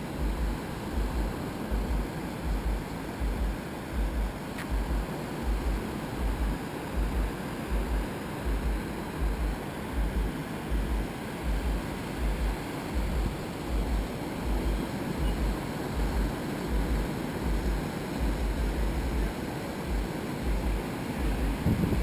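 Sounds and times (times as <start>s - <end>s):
surf washing onto beach: 0.0s - 22.0s
wind buffeting microphone: 0.0s - 22.0s.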